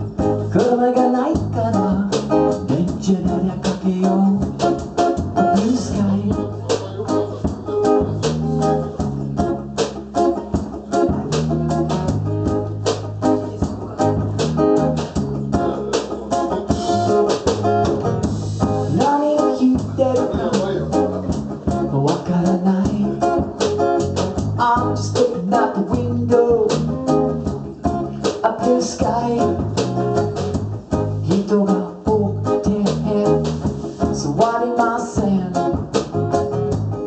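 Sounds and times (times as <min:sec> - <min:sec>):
bass guitar: 0:00.0 - 0:37.0
guitar: 0:00.0 - 0:37.0
steady beat: 0:00.0 - 0:37.0.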